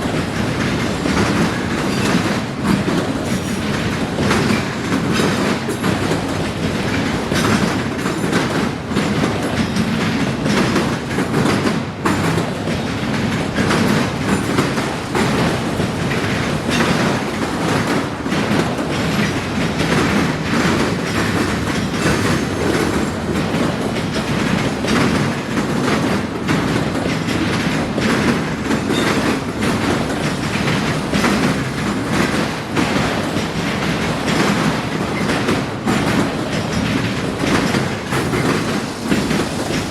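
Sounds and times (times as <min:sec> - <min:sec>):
train rolling roar: 0:00.0 - 0:39.9
train wheels clacking: 0:00.0 - 0:39.9.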